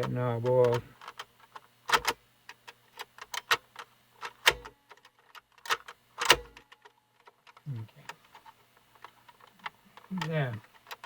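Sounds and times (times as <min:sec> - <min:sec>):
hard plastic parts clicking: 0:00.0 - 0:11.0.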